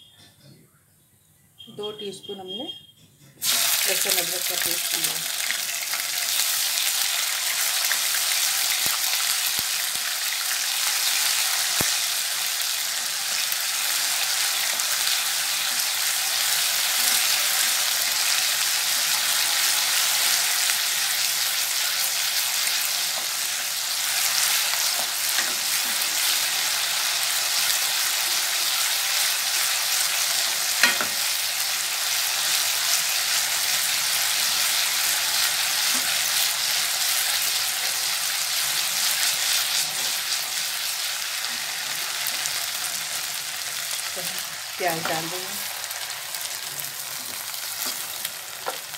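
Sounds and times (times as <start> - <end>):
paste sizzling in hot fat: 3.4 - 48.9.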